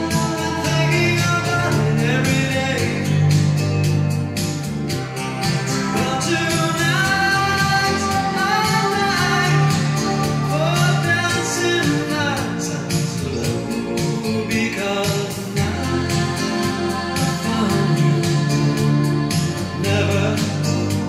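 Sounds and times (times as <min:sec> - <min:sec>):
song playing from vinyl record: 0:00.0 - 0:21.0.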